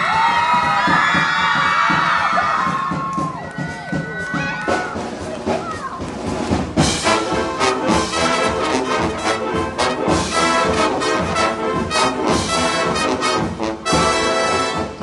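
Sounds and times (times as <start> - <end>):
marching band brass music: 0.0 - 15.0.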